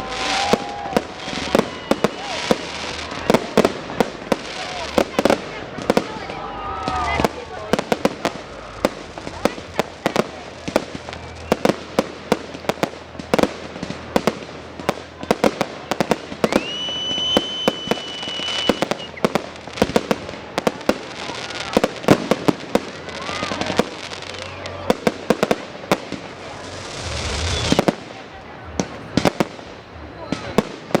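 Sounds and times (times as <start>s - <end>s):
high firework whistle: 0.0s - 12.8s, 14.9s - 28.2s
fireworks bangs and cracks: 0.0s - 31.0s.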